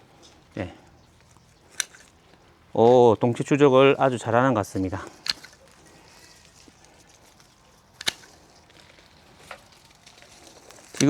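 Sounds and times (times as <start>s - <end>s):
pruning shears snipping: 0.0s - 11.0s.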